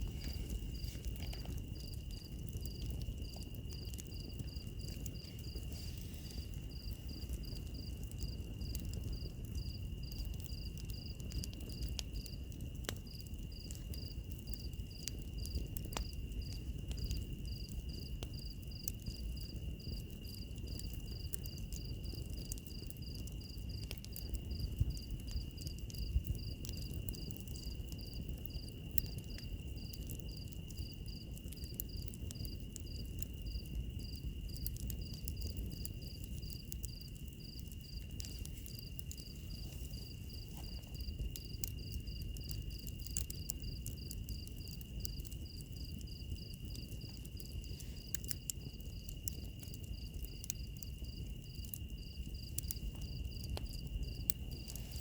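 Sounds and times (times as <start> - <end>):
insect chirping: 0.0 - 12.4, 13.1 - 55.0
fire crackling pops: 0.0 - 55.0
wood fire rumbling: 0.0 - 55.0.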